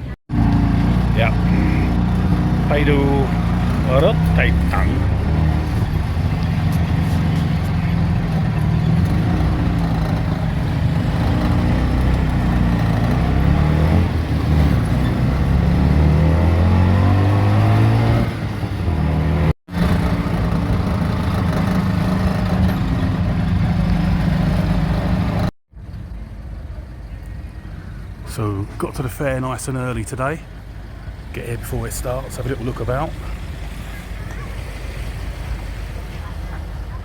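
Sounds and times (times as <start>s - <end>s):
tuk-tuk engine running: 0.0s - 28.4s, 30.4s - 37.0s.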